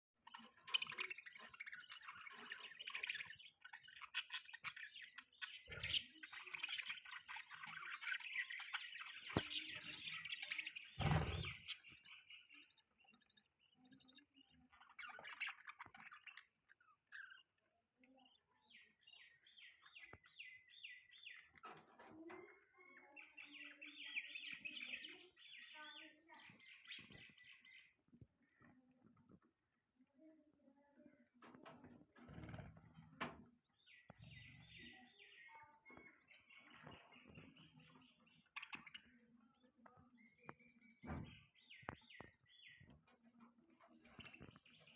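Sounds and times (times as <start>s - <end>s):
budgerigars chirping and warbling: 0.2s - 44.9s.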